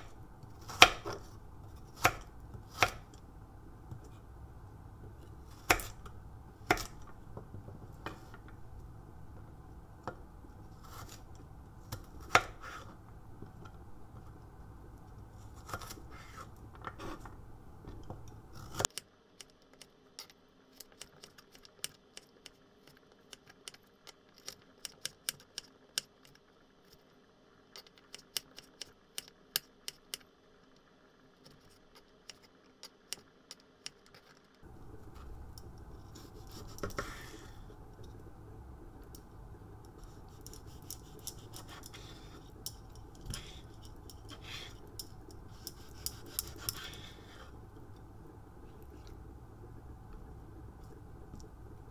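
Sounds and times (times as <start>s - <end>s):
low background hum: 0.0s - 51.9s.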